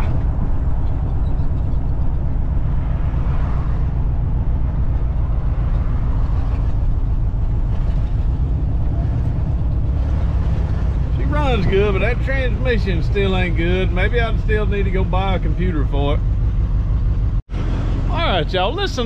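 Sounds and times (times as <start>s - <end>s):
pickup truck engine running: 0.0s - 19.0s.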